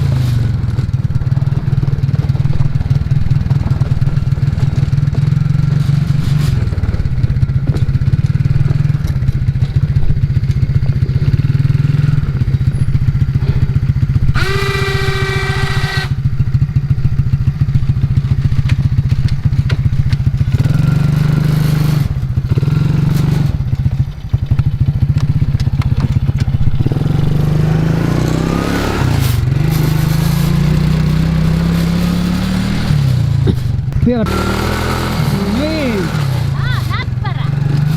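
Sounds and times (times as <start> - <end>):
engine running: 0.0 - 37.9.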